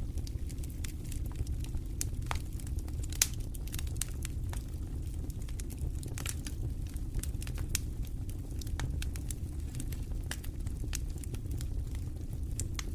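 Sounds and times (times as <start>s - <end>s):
campfire wood crackling: 0.0s - 12.9s
low fire rumble: 0.0s - 12.9s.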